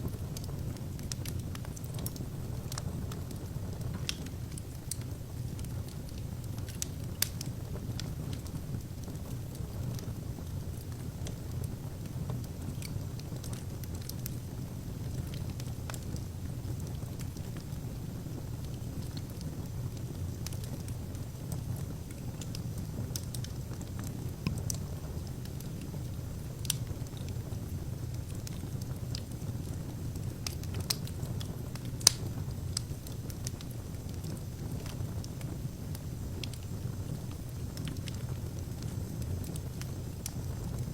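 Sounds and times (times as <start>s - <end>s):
fire rumbling: 0.0s - 40.9s
logs crackling and popping: 0.0s - 40.9s.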